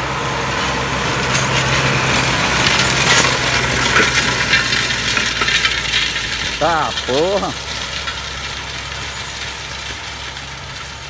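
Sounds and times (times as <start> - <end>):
tractor diesel engine running: 0.0 - 11.0
steel discs crunching and rattling: 0.4 - 11.0.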